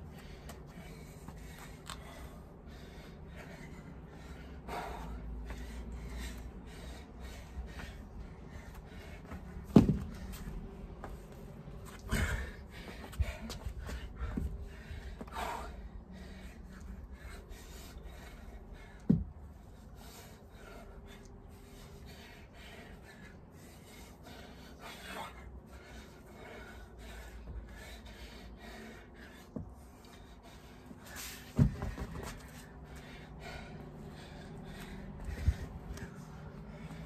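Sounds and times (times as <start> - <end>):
man breathing heavily: 0.0 - 37.0.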